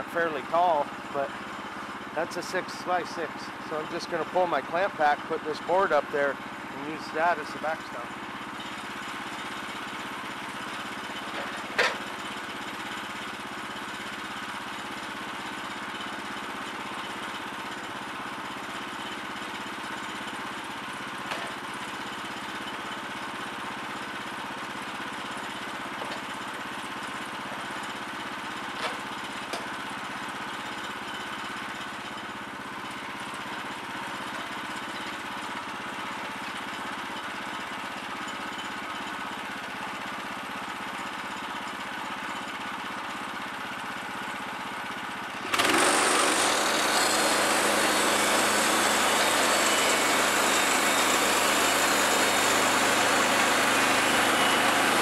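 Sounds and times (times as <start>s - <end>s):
small gas engine running: 0.0s - 55.0s.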